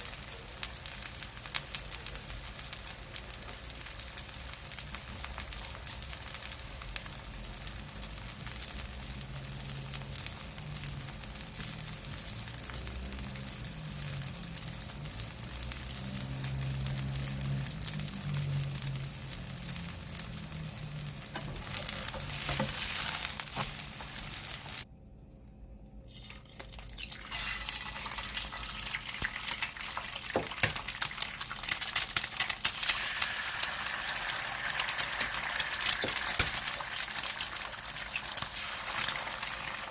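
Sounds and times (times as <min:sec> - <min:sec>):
food sizzling in hot oil: 0:00.0 - 0:24.8, 0:26.1 - 0:39.9.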